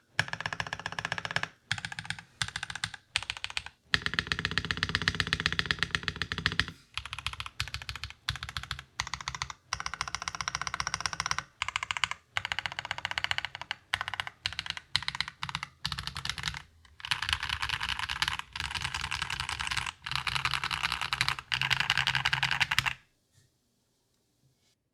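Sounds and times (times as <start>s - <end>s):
fast typing on mechanical keyboard: 0.2s - 23.0s.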